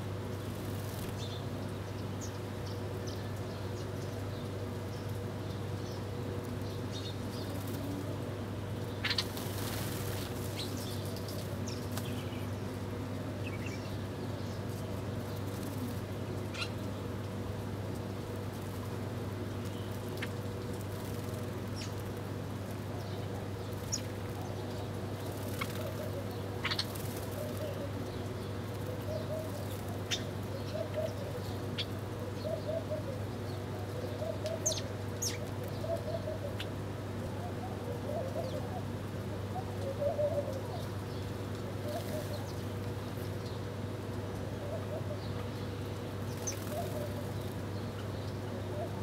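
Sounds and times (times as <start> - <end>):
sparrows chirping: 0.0 - 49.0
doves cooing: 2.4 - 49.0.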